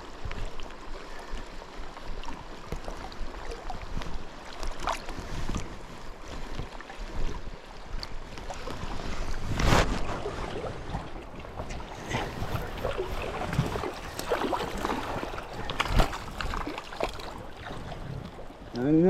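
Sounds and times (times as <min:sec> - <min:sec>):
wind on microphone: 0:00.0 - 0:18.8
water splashing around raft: 0:00.0 - 0:19.0.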